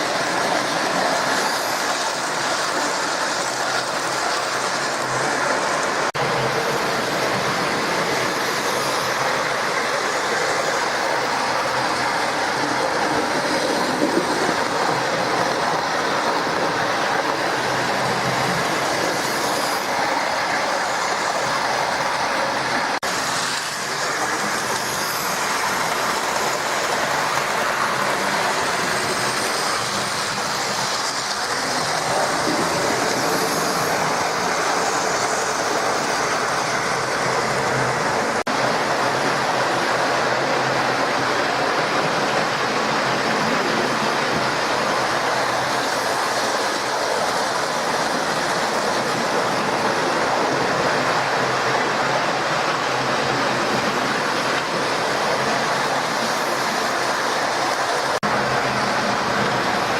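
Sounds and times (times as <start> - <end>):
wheels rattling over rail joints: 0.0 - 59.9.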